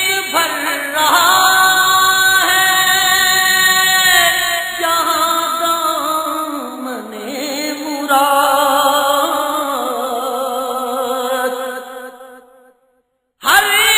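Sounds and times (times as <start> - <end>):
person singing religious chant: 0.0 - 12.7, 13.4 - 13.9.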